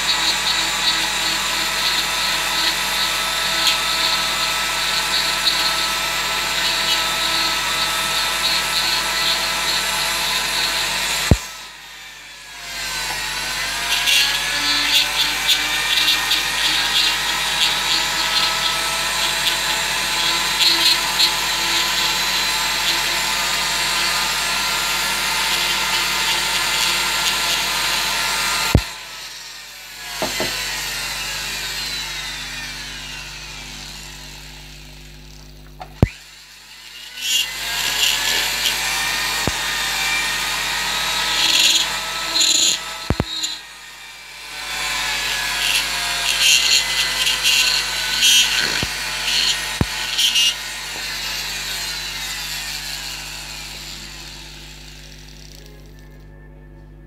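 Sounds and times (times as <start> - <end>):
rotary tool whining grinding wood: 0.0 - 56.2.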